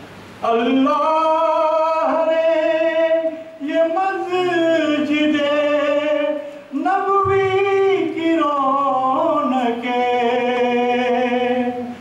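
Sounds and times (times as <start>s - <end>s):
man singing: 0.4s - 12.0s.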